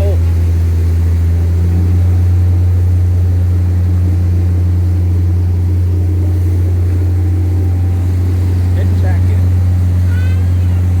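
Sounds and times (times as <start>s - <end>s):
deep engine drone: 0.0s - 11.0s.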